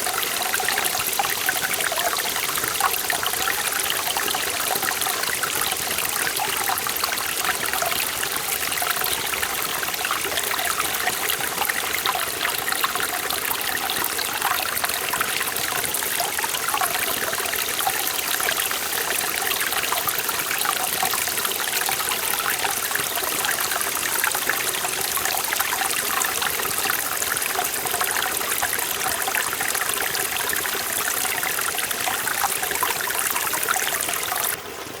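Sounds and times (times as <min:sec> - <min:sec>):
stream splashing over rocks: 0:00.0 - 0:34.9.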